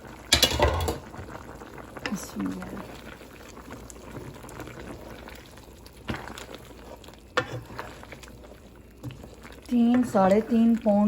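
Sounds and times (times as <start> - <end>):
pot boiling and bubbling: 0.0 - 11.0.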